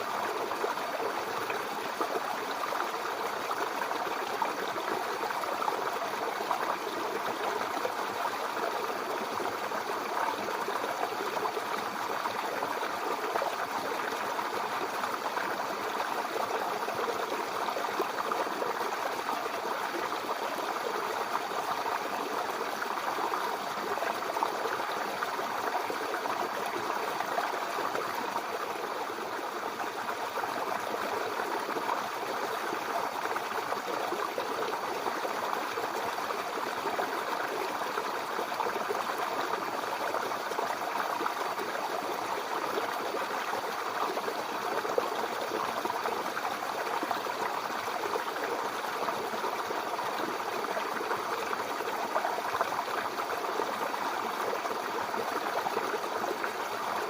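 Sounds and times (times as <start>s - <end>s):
brook babbling over stones: 0.0s - 57.0s.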